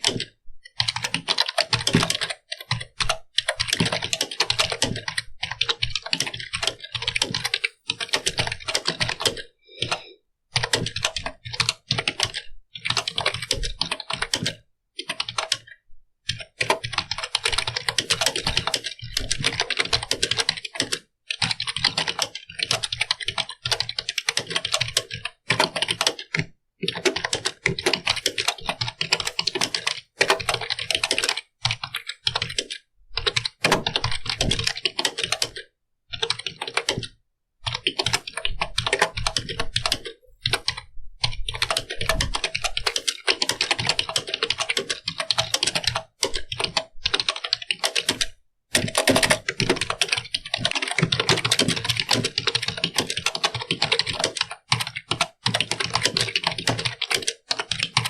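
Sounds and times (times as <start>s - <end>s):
keyboard typing: 0.0s - 58.0s.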